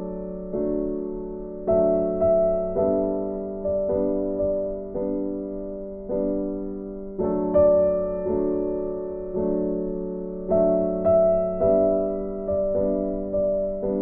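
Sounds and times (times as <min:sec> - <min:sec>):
gentle electric piano chords: 0:00.0 - 0:14.0.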